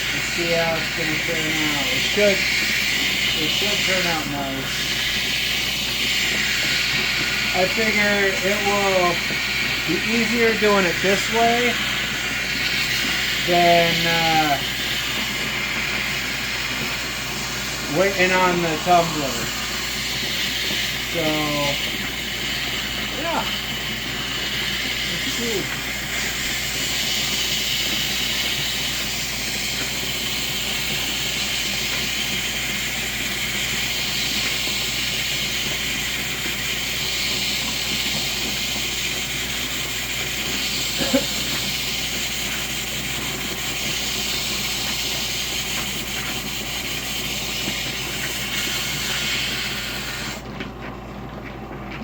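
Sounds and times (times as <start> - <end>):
grinder grinding stone: 0.0 - 50.5.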